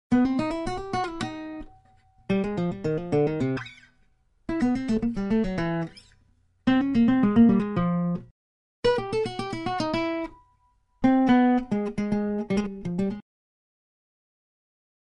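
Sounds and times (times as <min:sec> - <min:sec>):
plucked string music: 0:00.1 - 0:03.9, 0:04.5 - 0:13.2.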